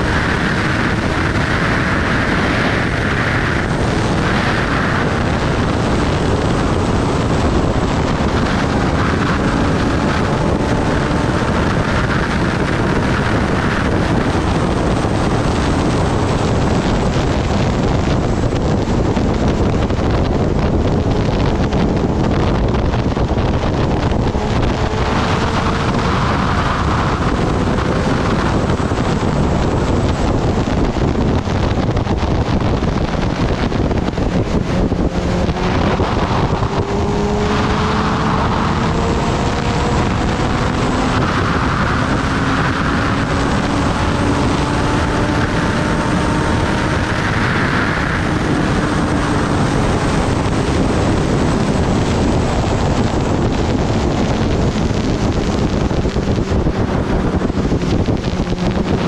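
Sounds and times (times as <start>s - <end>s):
wind rush on microphone: 0.0s - 59.0s.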